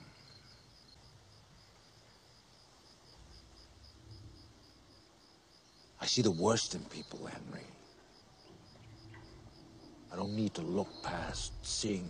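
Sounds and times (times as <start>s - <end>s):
faint crickets chirping: 0.0s - 12.0s.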